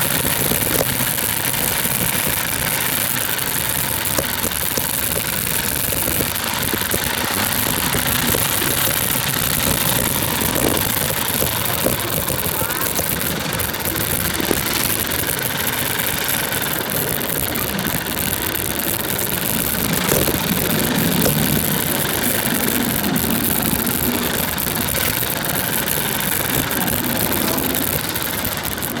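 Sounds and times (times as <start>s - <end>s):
moped scooter engine running: 0.0s - 29.0s.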